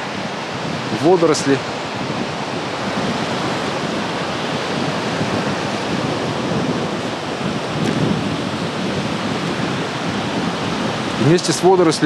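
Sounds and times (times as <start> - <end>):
waves washing on sandy beach: 0.0 - 12.0
wind on microphone: 0.0 - 12.0.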